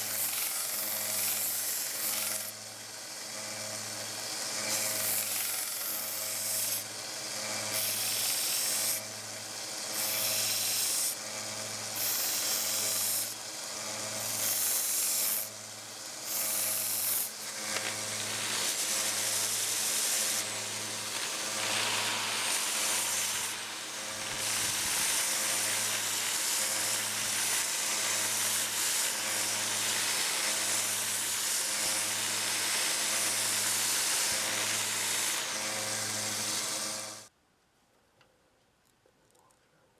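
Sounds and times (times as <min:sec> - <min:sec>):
belt sander grinding metal: 0:00.0 - 0:37.3.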